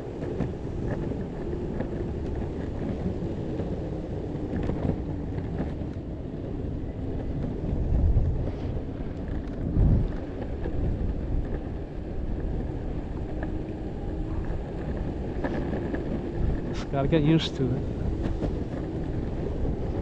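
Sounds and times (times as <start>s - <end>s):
skateboard rolling on pavement: 0.0s - 20.0s
wind buffeting microphone: 0.0s - 20.0s.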